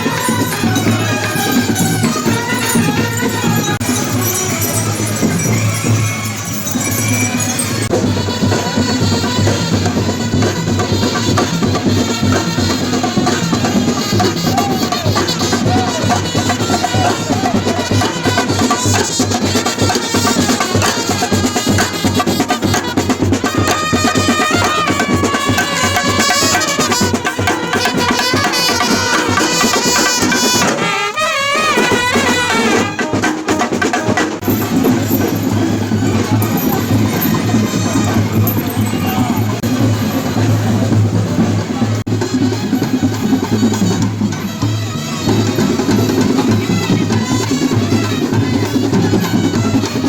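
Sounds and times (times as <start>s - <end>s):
pitched melody: 0.0s - 10.4s, 12.8s - 49.6s
loud music with fast drumming: 7.8s - 30.9s, 31.6s - 50.0s.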